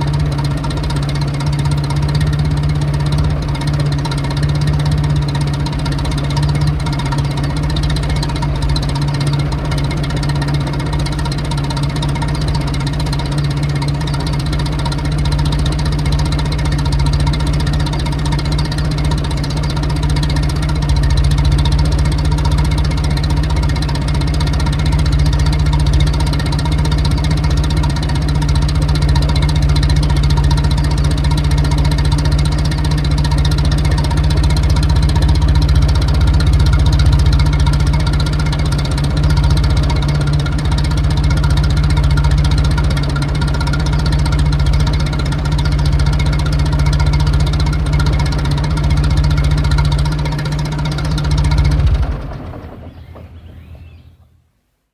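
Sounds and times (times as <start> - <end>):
car engine ticking over: 0.0 - 54.2.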